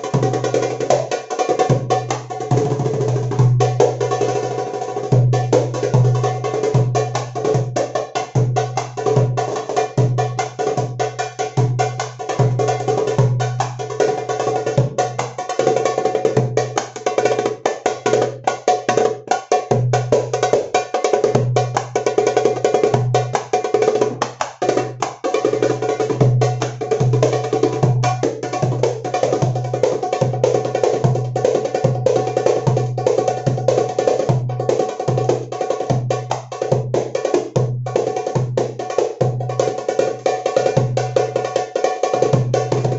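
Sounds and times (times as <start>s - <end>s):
hand drum playing fast strokes: 0.0s - 42.9s.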